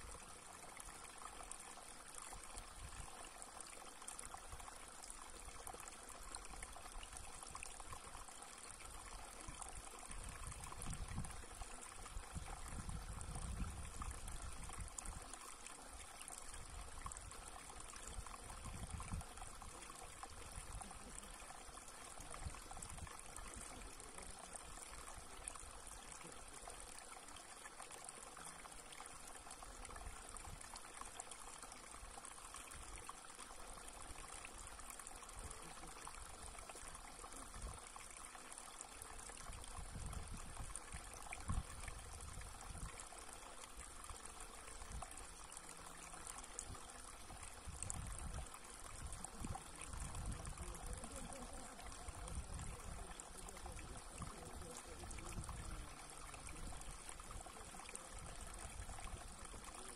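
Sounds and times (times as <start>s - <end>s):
water trickling into a pool: 0.0s - 59.9s.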